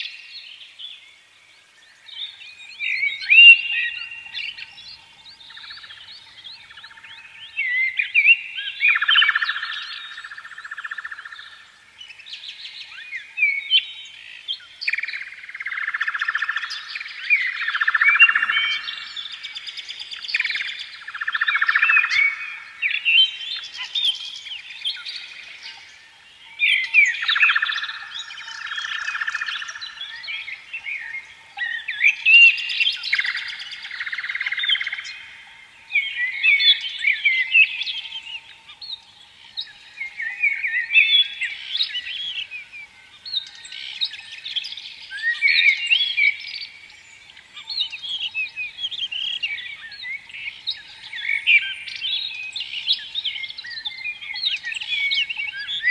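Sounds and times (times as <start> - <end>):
birds chirping and warbling: 0.0 - 55.9.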